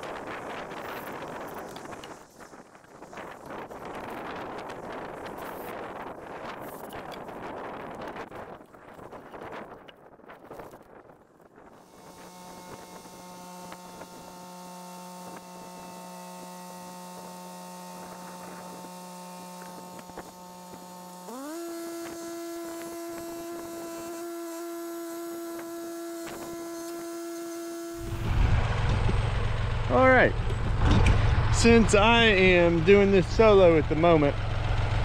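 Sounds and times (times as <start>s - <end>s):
tractor engine whine: 0.0s - 35.0s.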